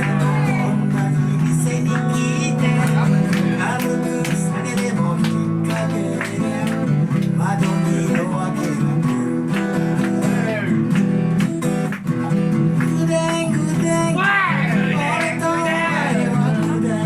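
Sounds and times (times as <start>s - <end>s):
person singing: 0.0s - 10.8s, 12.2s - 17.0s
acoustic guitar strumming chords: 0.0s - 17.0s.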